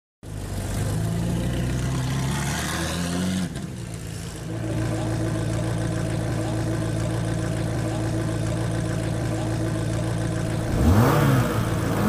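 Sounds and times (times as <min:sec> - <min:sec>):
car engine revving and idling: 0:00.3 - 0:12.0.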